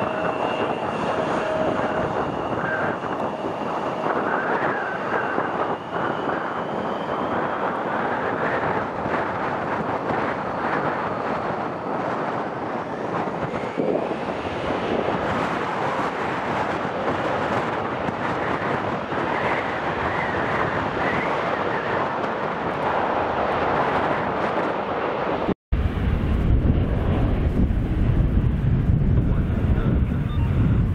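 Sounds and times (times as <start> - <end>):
jet engines running: 0.0 - 30.9
wind buffeting microphone: 0.0 - 30.9.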